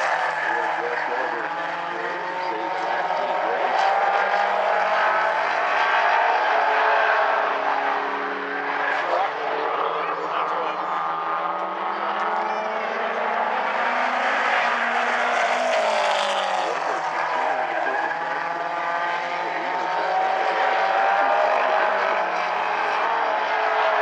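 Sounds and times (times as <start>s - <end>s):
race car engines: 0.0s - 24.0s.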